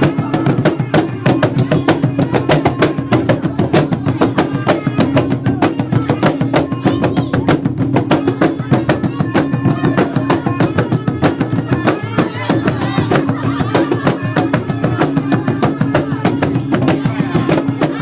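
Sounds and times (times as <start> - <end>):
fast steady drumming: 0.0 - 18.0.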